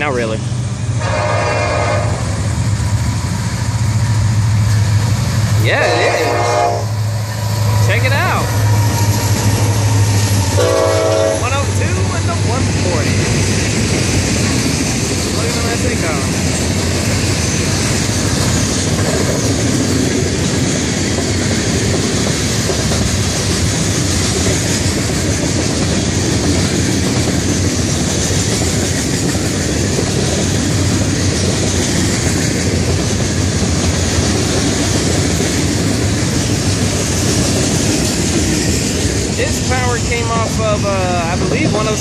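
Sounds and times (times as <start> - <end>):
train wheels clattering on rails: 7.2 - 42.0.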